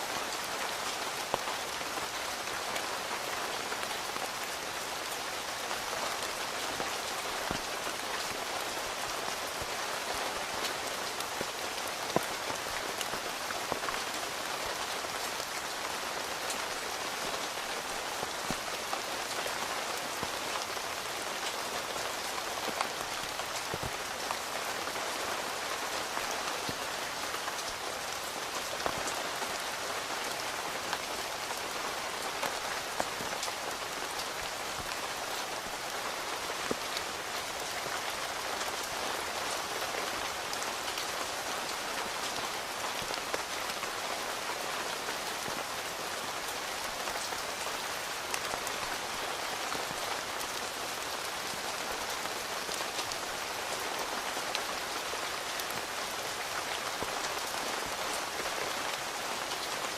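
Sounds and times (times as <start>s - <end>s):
rain falling on a tent: 0.0s - 59.9s.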